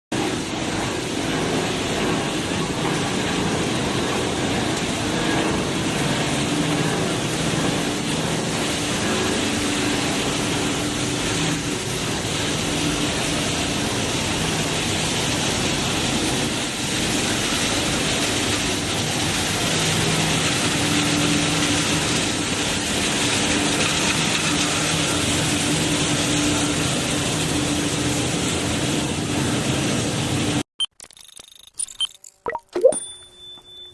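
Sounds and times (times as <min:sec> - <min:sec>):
machinery humming: 0:00.2 - 0:30.0.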